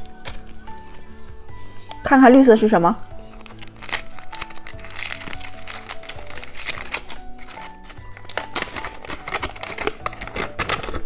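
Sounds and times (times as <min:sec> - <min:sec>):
plastic candy wrapper crinkling: 0:00.0 - 0:01.1, 0:03.2 - 0:11.0
background music: 0:00.0 - 0:11.0.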